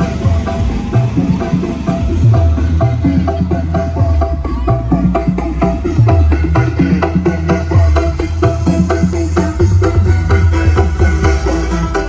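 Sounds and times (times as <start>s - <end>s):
loud bass-heavy music: 0.0s - 12.0s.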